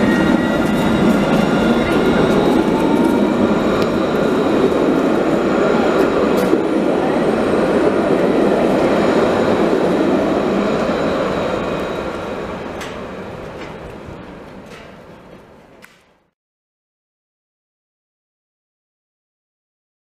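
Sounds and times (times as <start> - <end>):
high tram whine: 0.0 - 16.2
tram wheels rumbling on rail: 0.0 - 16.3.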